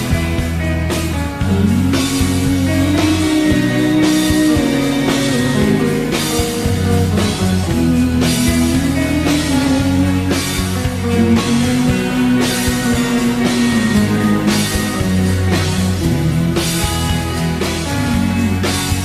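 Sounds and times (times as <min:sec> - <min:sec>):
bass: 0:00.0 - 0:19.0
drum kit beat: 0:00.0 - 0:19.0
sliding lead melody: 0:00.0 - 0:19.0.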